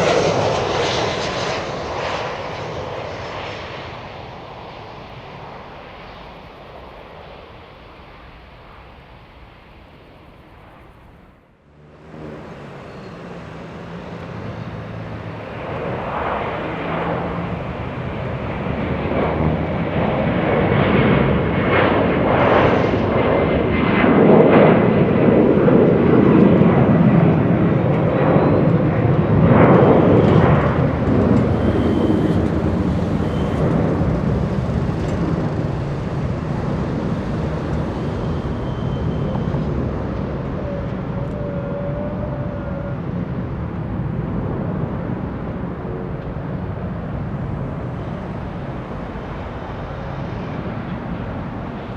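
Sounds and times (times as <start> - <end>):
airliner engines passing: 0.0 - 51.9.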